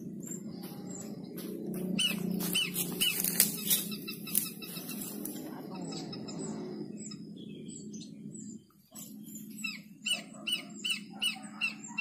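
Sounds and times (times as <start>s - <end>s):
low hum: 0.0s - 10.0s
bird chirping rapidly: 0.0s - 12.0s.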